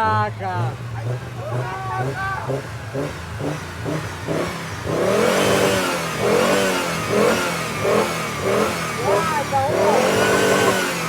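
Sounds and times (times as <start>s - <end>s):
van engine revving: 0.0s - 11.0s.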